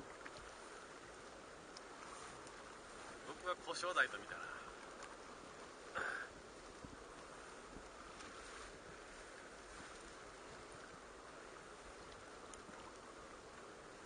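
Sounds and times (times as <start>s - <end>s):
water noise: 0.0s - 14.0s
wind: 0.0s - 14.0s.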